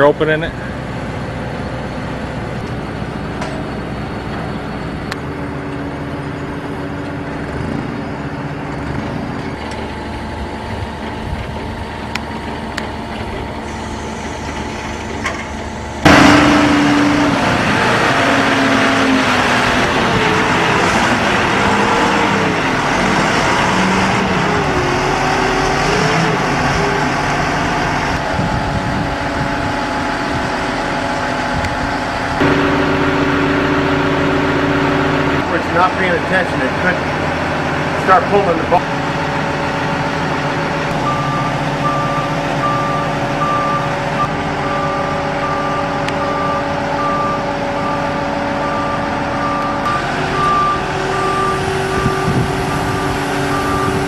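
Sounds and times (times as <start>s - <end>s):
forklift engine revving: 0.0s - 54.0s.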